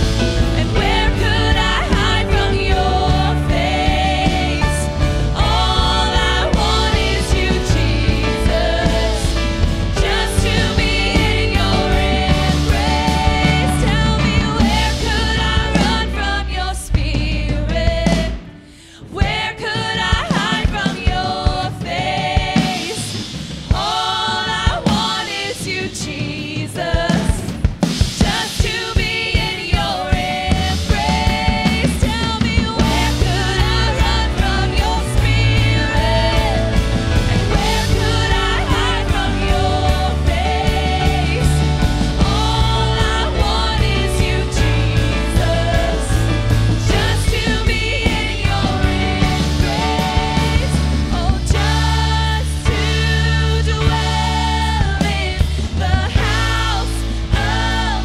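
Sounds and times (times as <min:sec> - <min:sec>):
bass guitar: 0:00.0 - 0:19.4, 0:30.1 - 0:58.0
drum kit: 0:00.0 - 0:58.0
several singers: 0:00.0 - 0:58.0.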